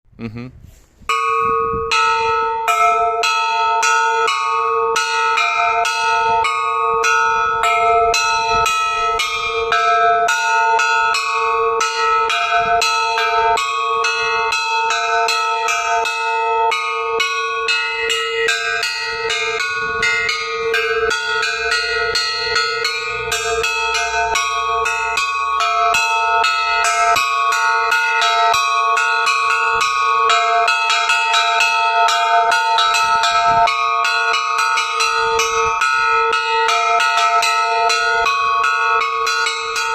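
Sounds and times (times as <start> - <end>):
church bells chiming: 1.1 - 39.9.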